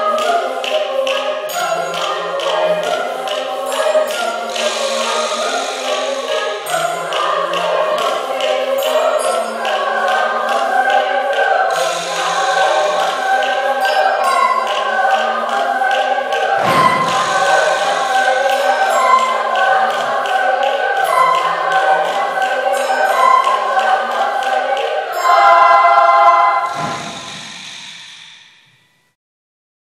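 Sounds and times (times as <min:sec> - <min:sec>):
choir singing in parts: 0:00.0 - 0:28.7.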